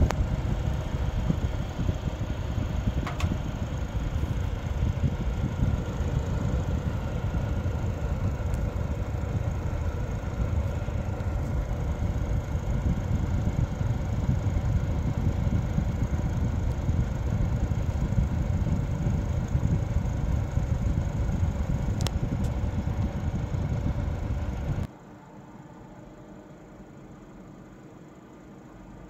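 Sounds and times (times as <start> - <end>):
fan heater whirring: 0.0 - 29.0.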